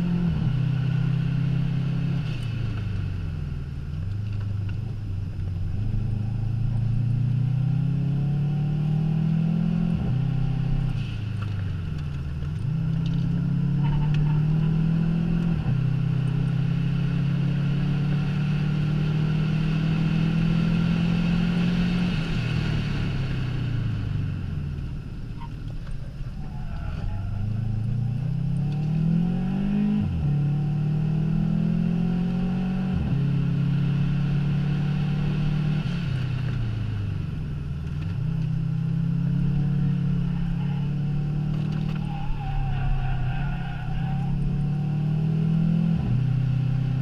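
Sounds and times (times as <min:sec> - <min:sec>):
car engine revving: 0:04.2 - 0:47.0.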